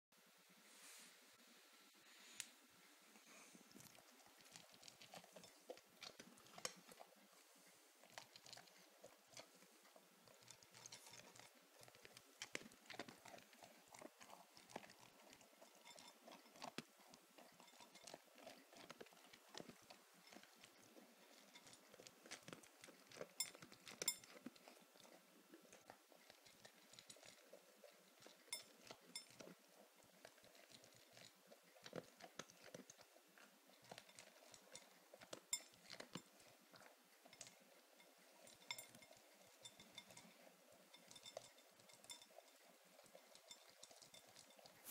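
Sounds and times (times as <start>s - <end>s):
dog chewing and crunching: 3.6s - 44.9s.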